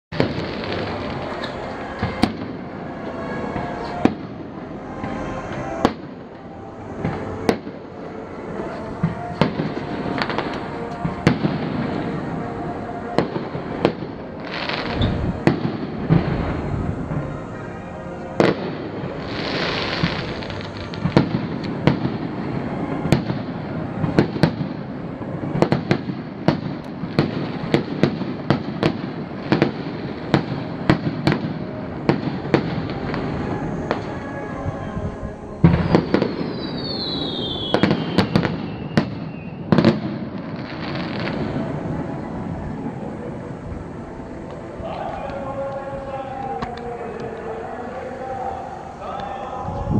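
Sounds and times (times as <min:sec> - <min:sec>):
fireworks bursting with sharp bangs: 0:00.1 - 0:34.6, 0:35.6 - 0:47.5.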